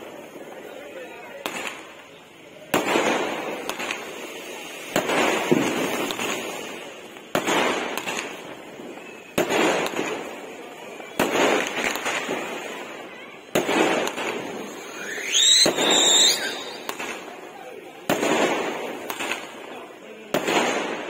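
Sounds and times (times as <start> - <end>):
firework stars hissing: 0.0 - 21.0
firework shells bursting: 2.7 - 19.7.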